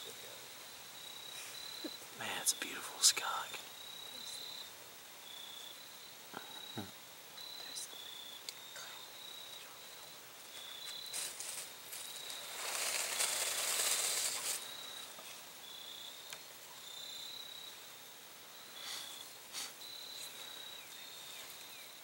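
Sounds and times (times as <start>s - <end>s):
crickets trilling: 0.0s - 22.0s
rustling hiss: 0.0s - 22.0s.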